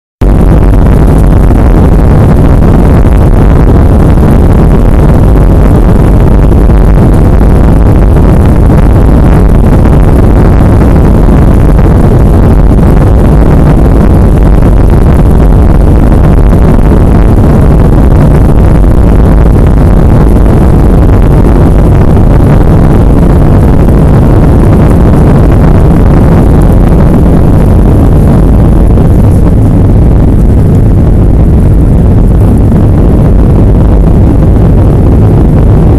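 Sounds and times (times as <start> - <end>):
jet engines rumbling: 0.2 - 35.9.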